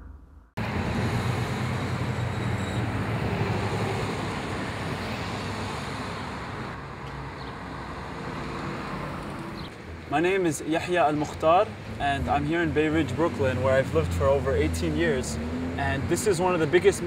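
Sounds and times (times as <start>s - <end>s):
street traffic rushing: 0.6s - 17.0s.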